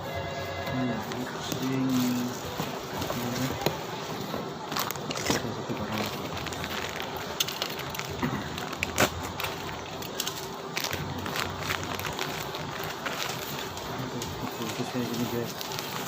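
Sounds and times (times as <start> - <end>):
packaging rustling and crinkling: 1.0 - 16.0.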